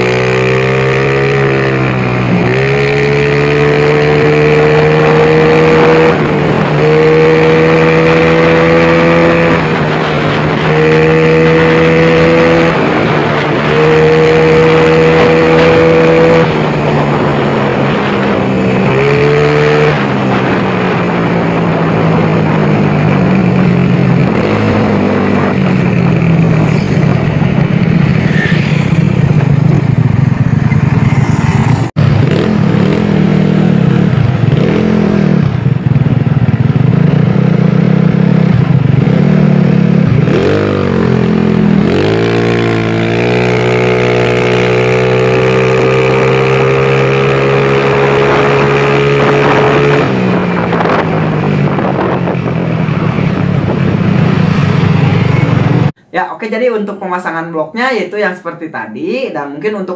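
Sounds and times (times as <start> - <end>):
scooter engine and exhaust: 0.0 - 56.1.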